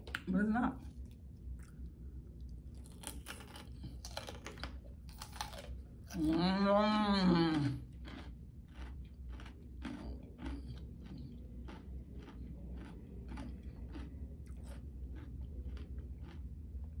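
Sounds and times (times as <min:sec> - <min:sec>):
person chewing crunchy food: 0:00.0 - 0:06.6, 0:07.4 - 0:17.0.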